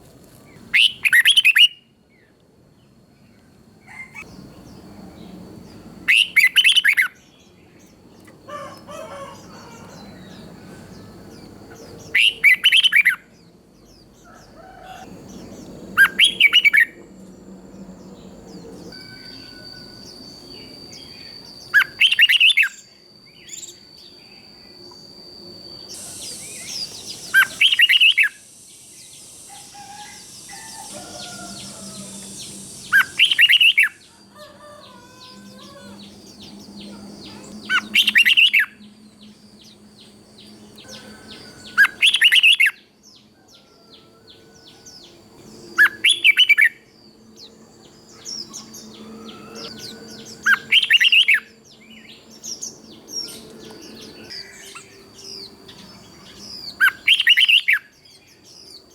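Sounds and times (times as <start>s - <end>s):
bird singing loud phrases: 0.5s - 2.3s, 3.3s - 25.0s, 25.7s - 58.9s
faint bird chirps: 0.5s - 58.9s.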